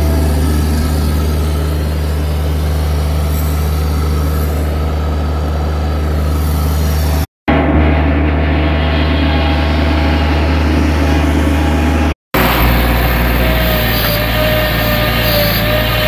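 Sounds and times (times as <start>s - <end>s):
diesel engine running under load: 0.0s - 16.0s
thin whine: 0.0s - 16.0s.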